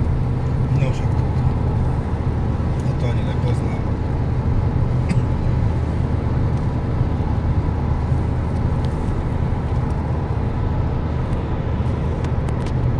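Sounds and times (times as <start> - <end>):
car cabin engine and tyre drone: 0.0 - 12.9.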